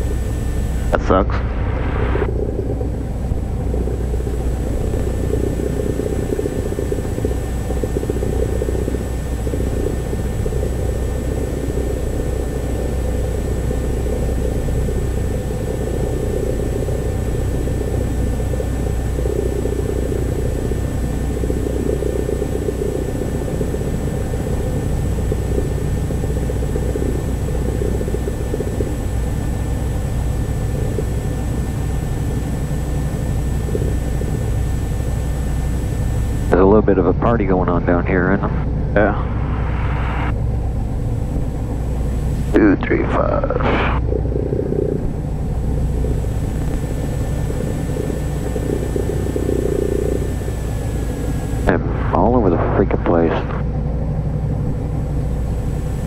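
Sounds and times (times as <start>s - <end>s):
plane engine and propeller drone: 0.0s - 56.0s.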